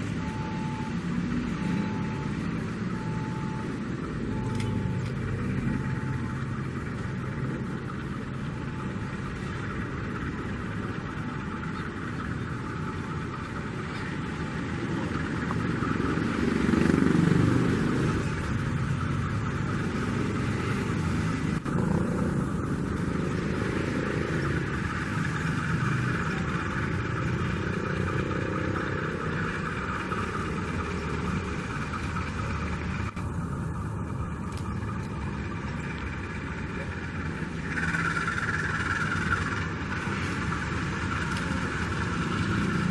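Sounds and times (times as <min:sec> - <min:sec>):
diesel locomotive engine running: 0:00.0 - 0:42.9.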